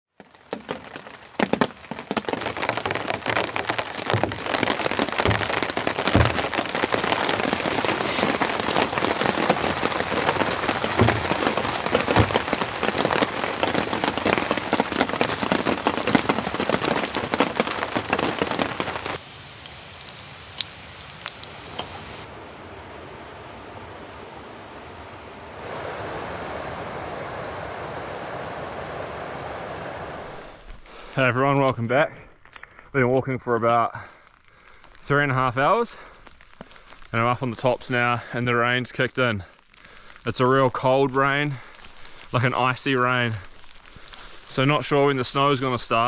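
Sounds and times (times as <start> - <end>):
heavy rain falling: 0.1 - 31.4, 33.3 - 46.0.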